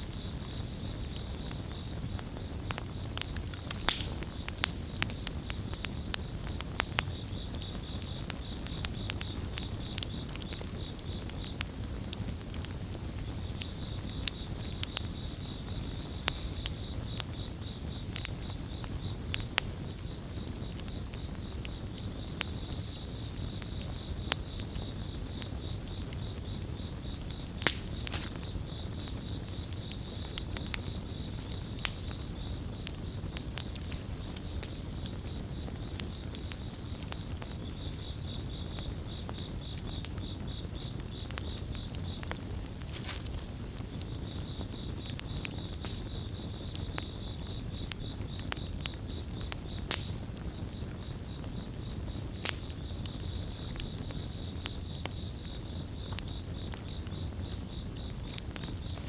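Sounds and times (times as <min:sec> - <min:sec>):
campfire crackling: 0:00.0 - 0:59.0
crickets chirping: 0:00.0 - 0:59.0.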